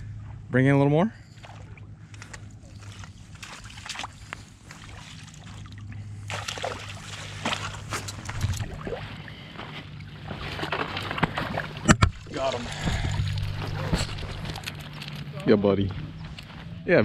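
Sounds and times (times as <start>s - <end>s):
steady low hum: 0.0s - 17.0s
fish splashing in shallow water: 1.2s - 15.0s.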